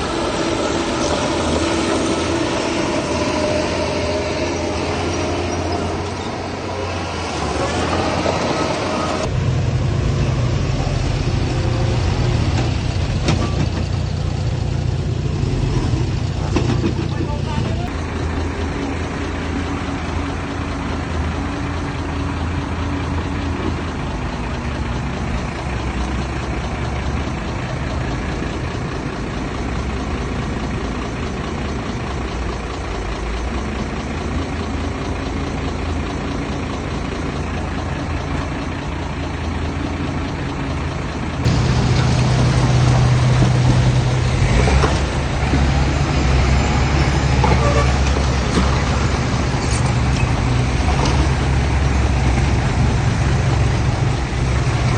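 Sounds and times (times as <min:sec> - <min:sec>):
heavy diesel machinery engines: 0:00.0 - 0:54.9.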